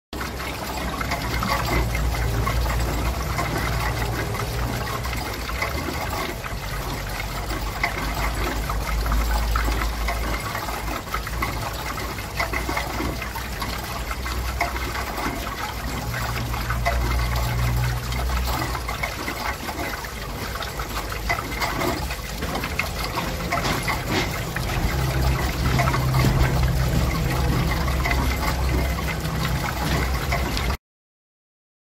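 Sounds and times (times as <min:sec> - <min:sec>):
water splashing off water wheel: 0:00.2 - 0:30.8.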